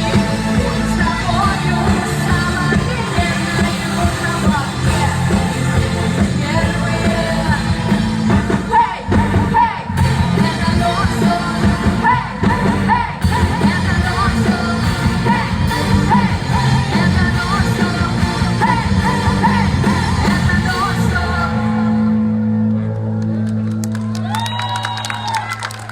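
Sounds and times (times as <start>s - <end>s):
person singing: 0.0s - 22.4s
pop-rock band playing: 0.0s - 23.9s.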